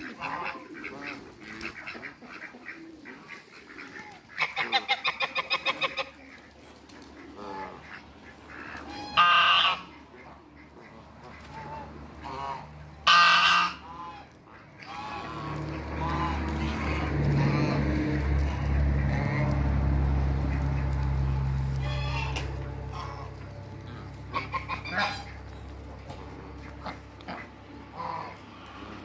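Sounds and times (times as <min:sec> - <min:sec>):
ducks quacking: 0:00.0 - 0:29.0.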